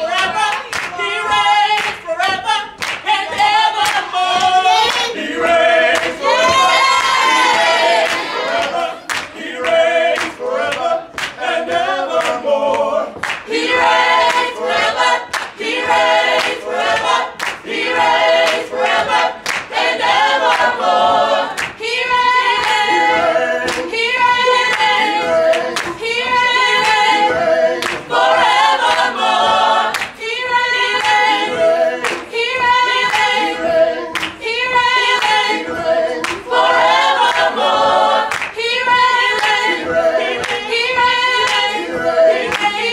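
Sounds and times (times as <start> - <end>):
a cappella group singing in harmony: 0.0 - 42.9
hand claps: 0.0 - 42.9.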